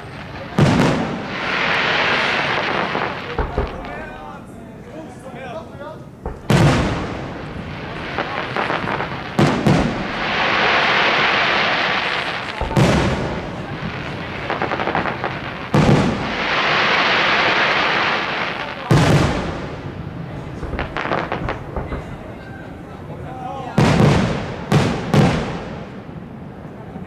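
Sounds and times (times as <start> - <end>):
firework shells bursting with bangs: 0.0 - 5.4, 6.0 - 26.8
firework crackling and hissing: 0.0 - 27.0.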